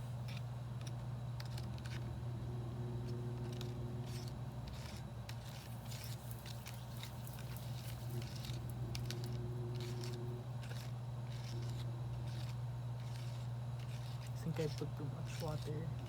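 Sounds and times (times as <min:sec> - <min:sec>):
low hum: 0:00.0 - 0:16.0
plastic stirrer scraping a tray: 0:01.4 - 0:16.0.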